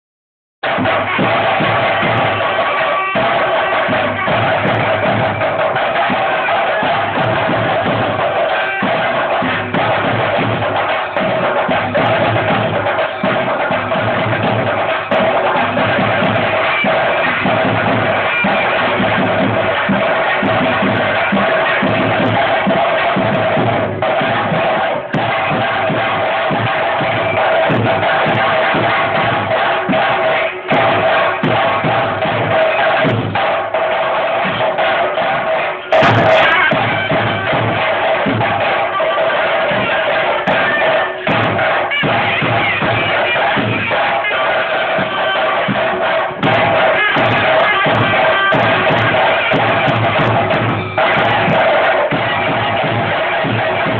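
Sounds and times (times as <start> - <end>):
drum-led music: 0.6 - 53.9.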